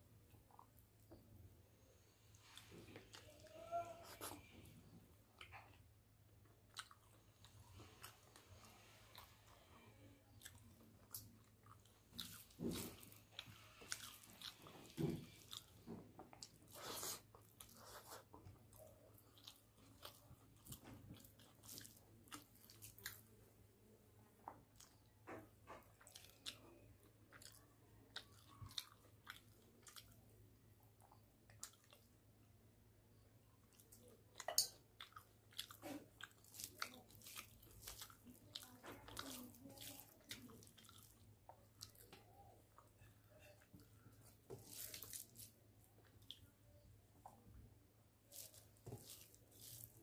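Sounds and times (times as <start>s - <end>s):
man chewing with wet mouth sounds: 0.0s - 50.0s.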